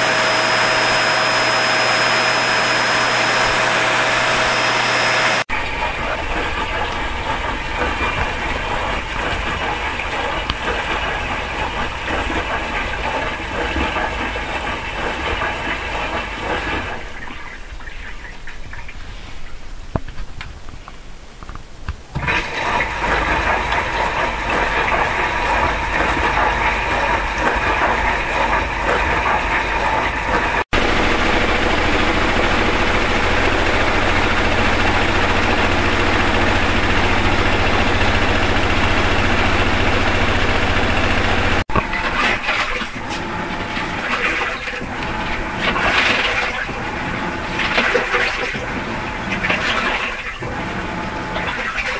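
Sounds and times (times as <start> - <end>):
electrical appliances humming: 0.0 - 51.9.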